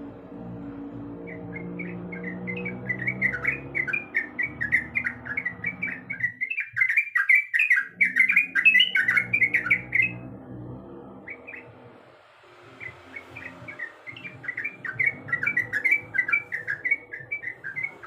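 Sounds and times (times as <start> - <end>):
bird singing bubbling notes: 1.2 - 10.3, 11.2 - 11.7, 12.8 - 18.0.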